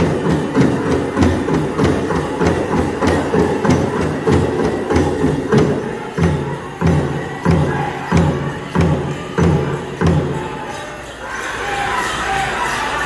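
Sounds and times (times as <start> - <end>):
drum struck in steady beat: 0.0 - 10.5.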